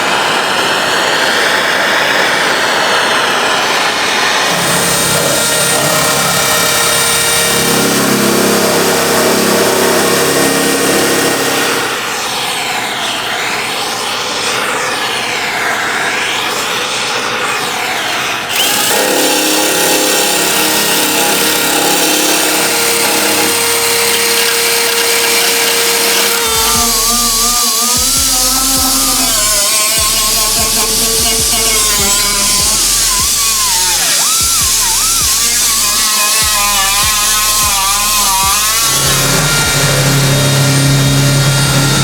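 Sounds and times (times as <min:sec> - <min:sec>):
power tool whirring on metal: 0:00.0 - 0:42.0.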